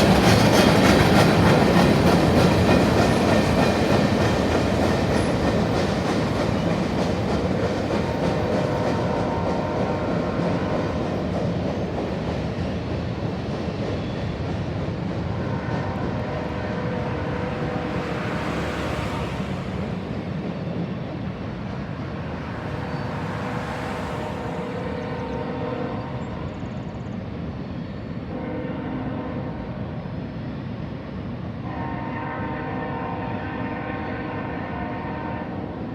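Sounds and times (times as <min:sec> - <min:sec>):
freight train wheels rumbling on rails: 0:00.0 - 0:35.9.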